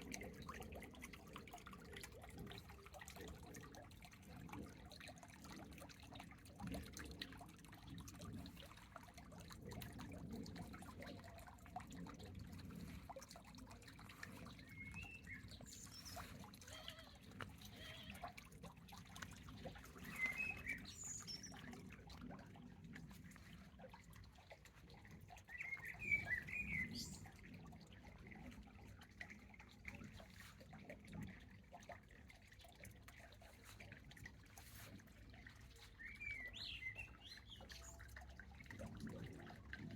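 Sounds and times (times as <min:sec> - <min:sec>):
rainwater dripping from leaves: 0:00.0 - 0:39.9.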